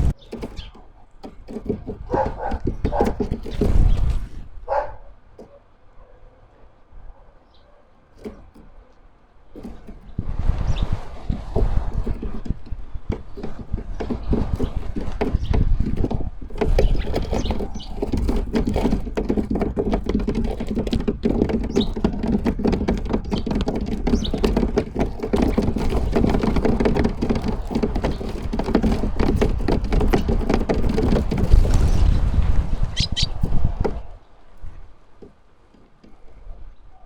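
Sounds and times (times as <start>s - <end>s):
birds pecking on wooden feeder: 0.0s - 4.1s, 7.4s - 34.2s.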